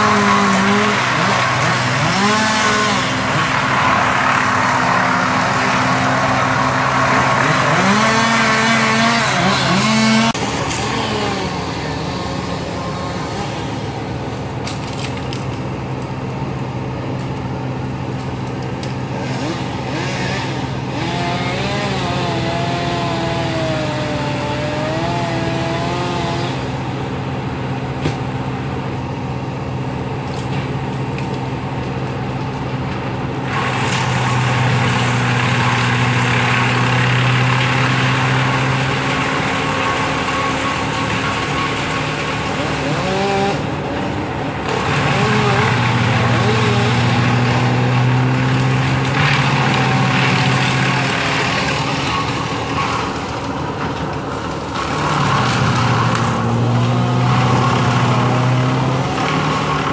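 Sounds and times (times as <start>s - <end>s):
engines humming: 0.0s - 59.9s.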